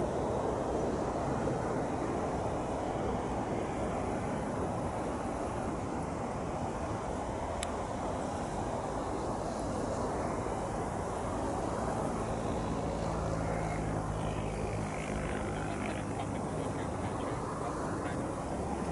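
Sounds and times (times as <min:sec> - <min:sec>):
jet engine rumble: 0:00.0 - 0:18.9.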